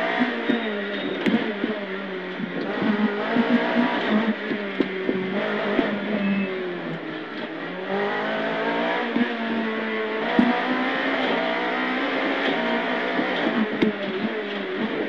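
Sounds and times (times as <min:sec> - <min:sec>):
car knocking over bumps: 0:00.0 - 0:07.7, 0:08.7 - 0:15.0
car engine accelerating through gears: 0:00.0 - 0:15.0.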